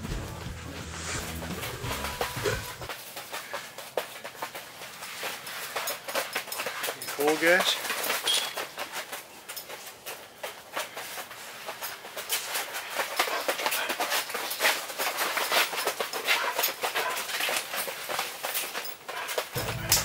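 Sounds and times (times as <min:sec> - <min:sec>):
dogs scratching on a tarp: 0:00.9 - 0:10.0, 0:10.8 - 0:19.7.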